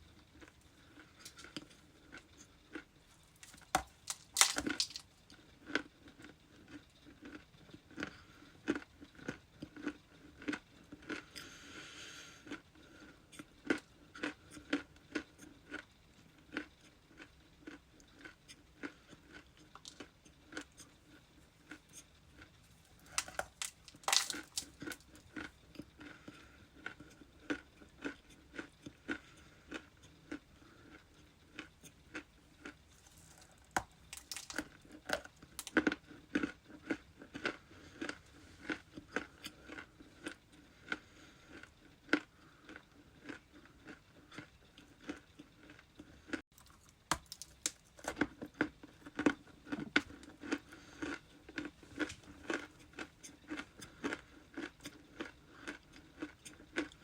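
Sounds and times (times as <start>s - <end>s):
ice being chewed: 0.1s - 57.0s.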